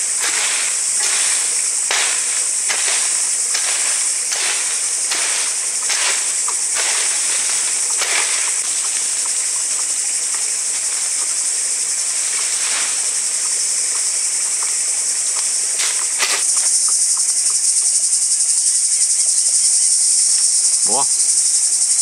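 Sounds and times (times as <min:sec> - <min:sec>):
forest insects chorus: 0:00.0 - 0:22.0.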